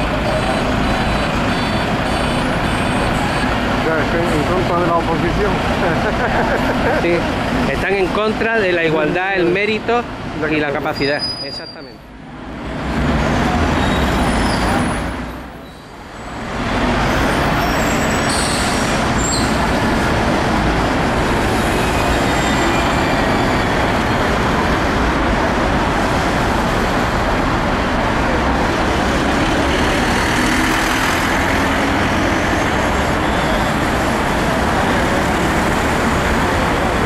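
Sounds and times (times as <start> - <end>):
buses passing: 0.0 - 37.0
traffic road noise: 0.0 - 37.0.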